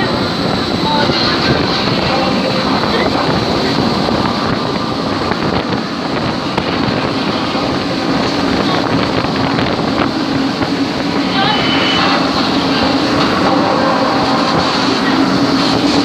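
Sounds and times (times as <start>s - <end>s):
wind machine blower rushing: 0.0s - 16.0s.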